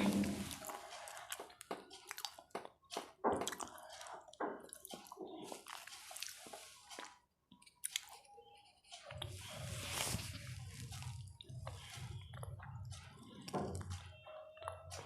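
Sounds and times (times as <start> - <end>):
wet chewing and biting: 0.3 - 15.0.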